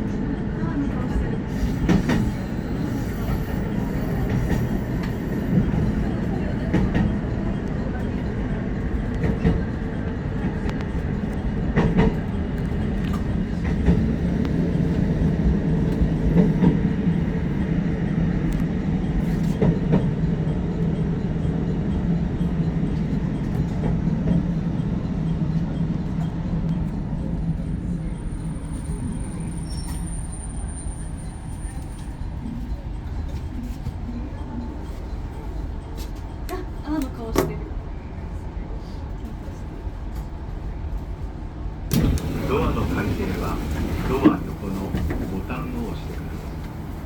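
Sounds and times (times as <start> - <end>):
train rumble and hum: 0.0 - 47.0.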